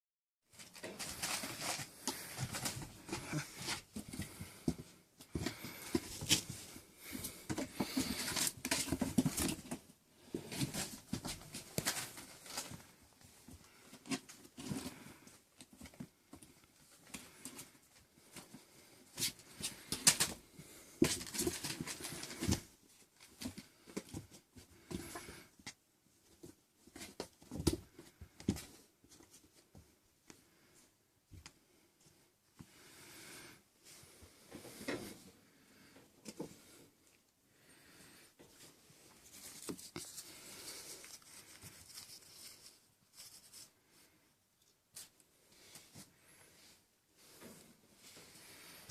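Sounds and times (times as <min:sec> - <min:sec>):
kittens scuffling: 0:00.5 - 0:48.9.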